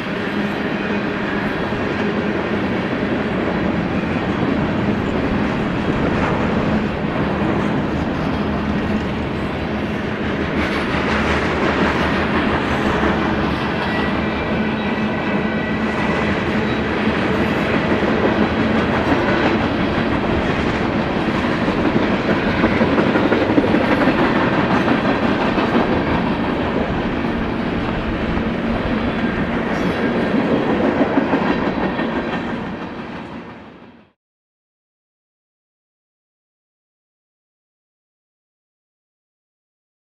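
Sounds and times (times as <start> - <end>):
train wheels rolling on rail: 0.0 - 34.2.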